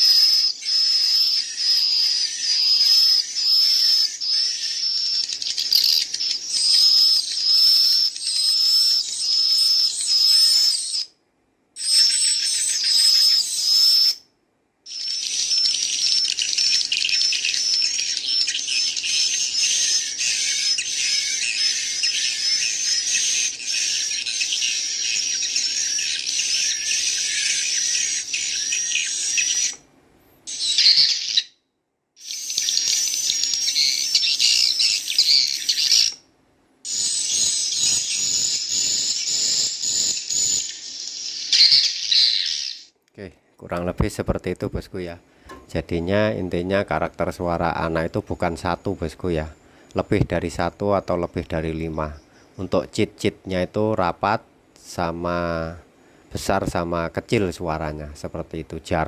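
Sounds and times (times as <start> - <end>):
bird chicks chirping through speaker: 0.0 - 11.2, 11.8 - 14.3, 14.9 - 29.8, 30.4 - 31.6, 32.2 - 36.3, 36.9 - 59.0.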